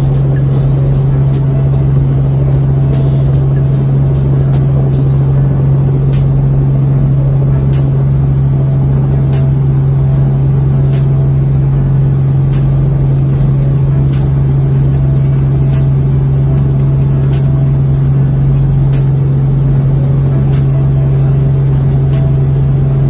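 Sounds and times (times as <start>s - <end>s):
helicopter drone: 0.0s - 23.0s.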